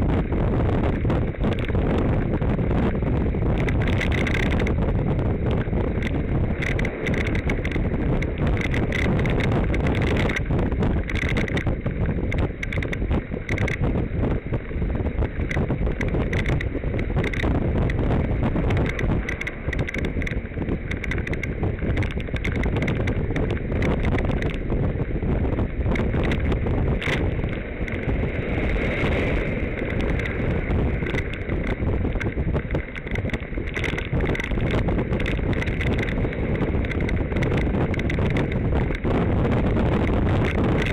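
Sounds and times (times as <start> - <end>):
bicycle rumbling on road: 0.0 - 40.9
wind buffeting microphone: 0.0 - 40.9
small clicks and rattles: 0.9 - 40.9.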